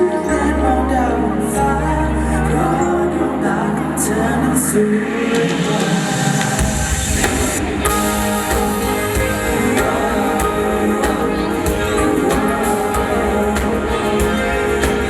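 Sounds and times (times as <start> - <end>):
instrumental pop music over speakers: 0.0 - 15.0.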